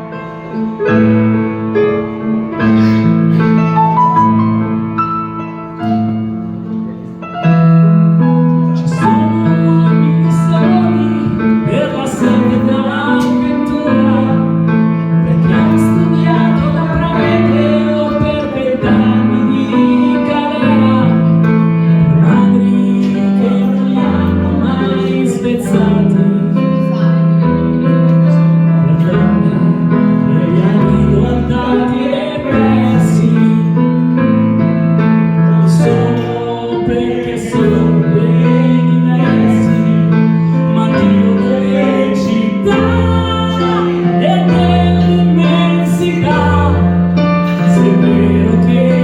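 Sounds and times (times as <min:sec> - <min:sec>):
piano chords: 0:00.0 - 0:49.0
person singing: 0:08.6 - 0:49.0.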